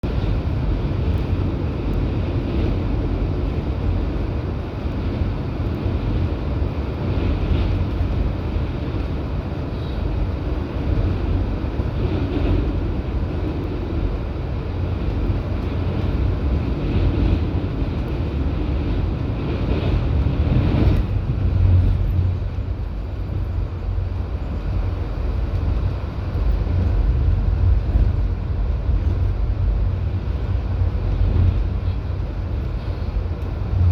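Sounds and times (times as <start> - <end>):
train rumble from on board: 0.0 - 33.9
wind noise on microphone: 0.0 - 33.9.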